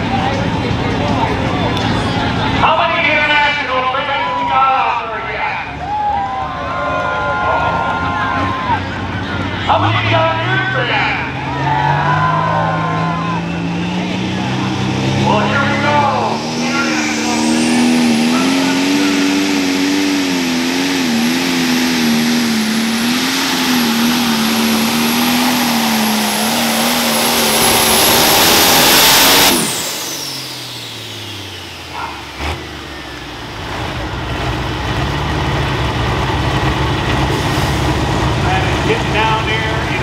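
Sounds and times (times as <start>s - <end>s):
diesel tractor engine at full throttle: 0.0s - 40.0s.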